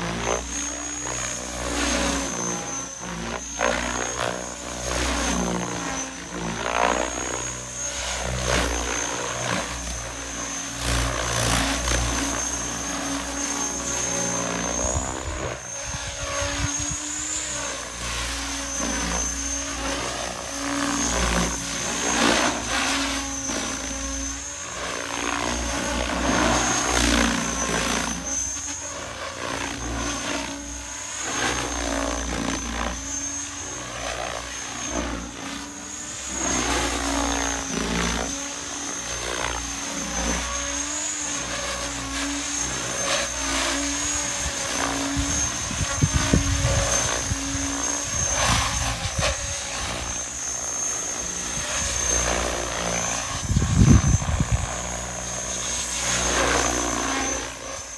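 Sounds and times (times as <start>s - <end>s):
rc helicopter motor whine: 0.0s - 57.9s.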